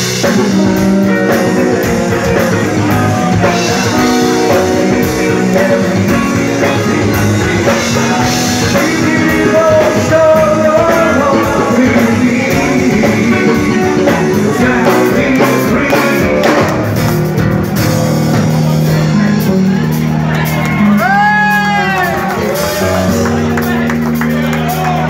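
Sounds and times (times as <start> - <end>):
electric guitars: 0.0 - 25.0
rock band playing live: 0.0 - 25.0.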